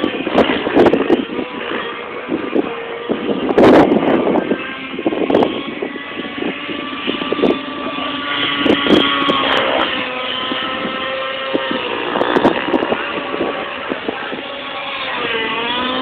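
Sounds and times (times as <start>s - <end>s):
model helicopter motor whine: 0.0s - 16.0s
wind buffeting microphone: 0.0s - 16.0s.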